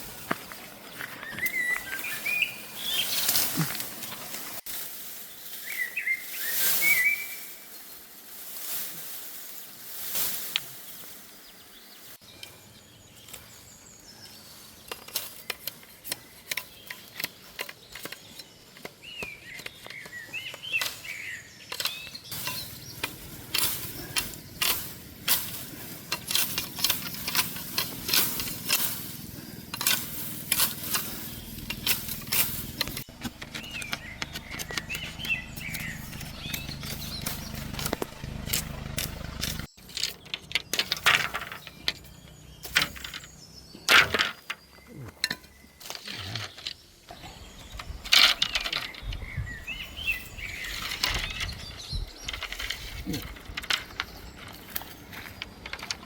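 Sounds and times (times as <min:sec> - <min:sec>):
small birds chirping: 0:00.0 - 0:04.6, 0:05.2 - 0:10.1, 0:10.7 - 0:56.0.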